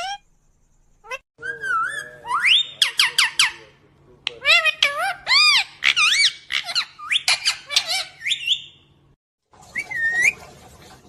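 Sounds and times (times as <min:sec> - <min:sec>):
parrot chirping: 0:00.0 - 0:09.0, 0:09.7 - 0:10.4.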